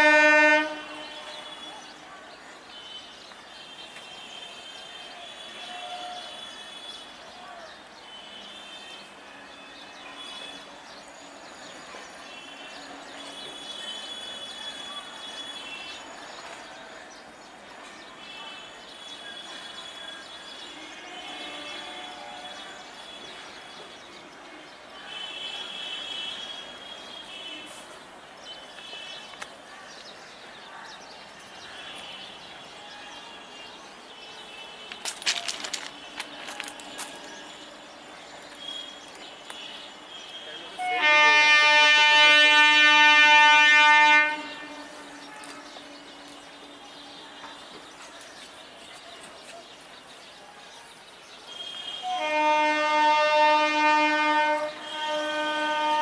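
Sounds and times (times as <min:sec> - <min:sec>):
platform crowd hubbub: 0:00.0 - 0:56.0.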